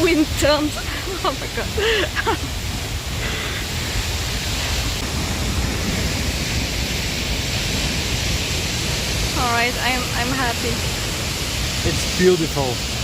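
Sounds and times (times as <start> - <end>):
waterfall rushing: 0.0 - 13.0
wind rumbling on microphone: 0.0 - 13.0.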